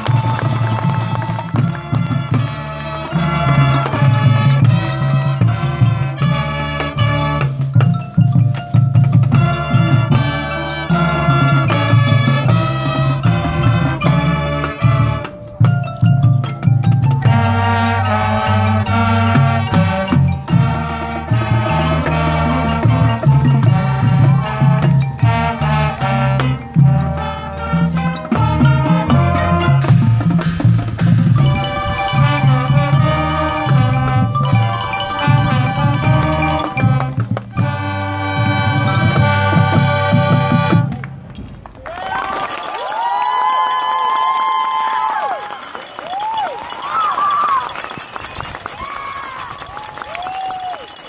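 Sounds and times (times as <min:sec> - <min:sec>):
marching band playing: 0:00.0 - 0:51.0
wind instruments holding chords: 0:00.0 - 0:51.0
drum strikes: 0:00.1 - 0:42.2.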